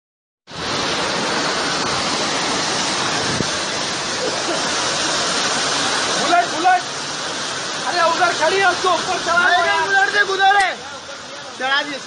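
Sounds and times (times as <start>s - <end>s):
floodwater rushing: 0.5s - 12.0s.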